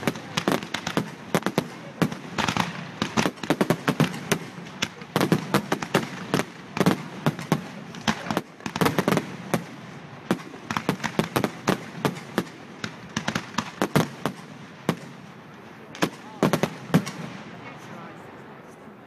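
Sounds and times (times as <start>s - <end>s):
aerial fireworks bursting: 0.0s - 18.7s.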